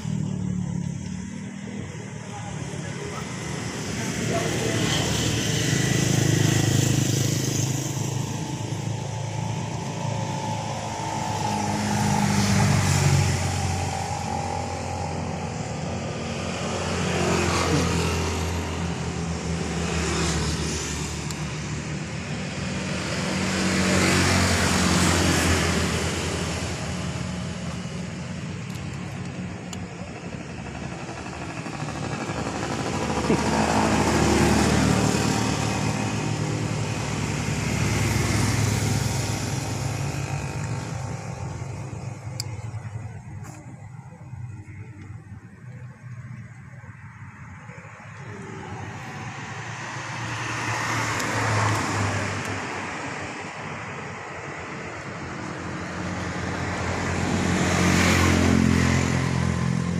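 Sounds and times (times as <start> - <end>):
low engine hum: 0.0 - 59.9
vehicles passing: 0.0 - 59.9.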